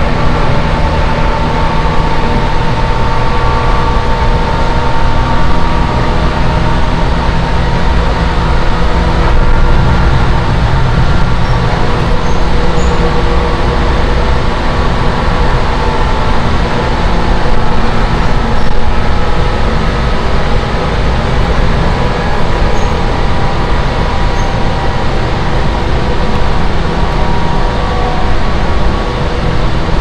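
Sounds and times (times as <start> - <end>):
faint steady whine: 0.0 - 30.0
train wheels rumbling: 0.0 - 30.0.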